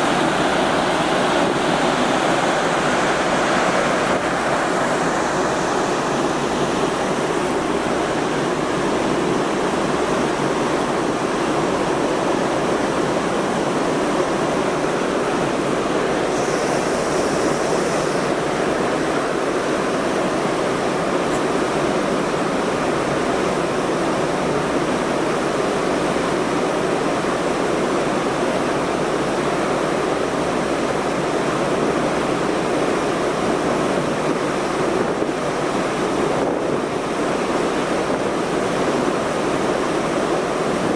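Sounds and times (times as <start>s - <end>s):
sea rushing: 0.0s - 40.9s.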